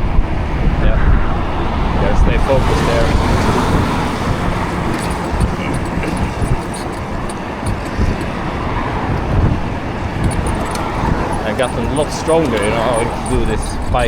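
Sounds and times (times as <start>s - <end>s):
road traffic noise: 0.0s - 14.0s
wind rumble on microphone: 0.0s - 14.0s.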